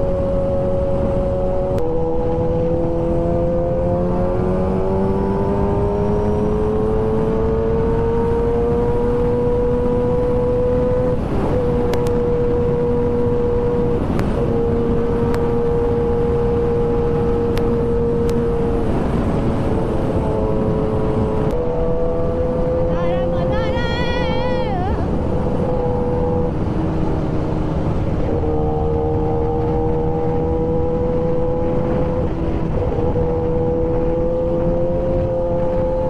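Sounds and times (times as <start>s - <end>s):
motorcycle engine at high revs: 0.0s - 23.8s, 25.0s - 36.0s
wind noise rushing: 0.0s - 36.0s.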